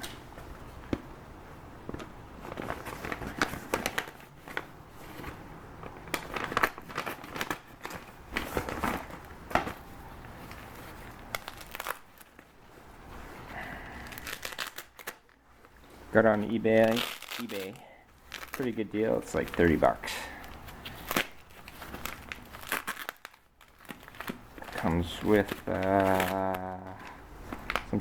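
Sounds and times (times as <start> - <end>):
packaging crinkling: 1.9 - 28.0.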